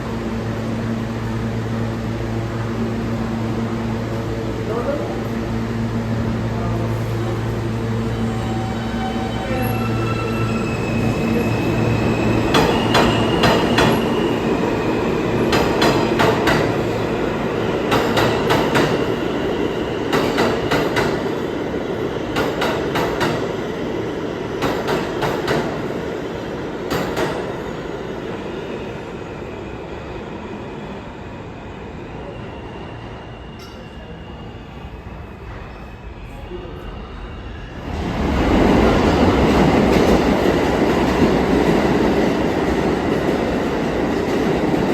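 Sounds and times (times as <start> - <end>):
subway train rumbling: 0.0 - 44.9.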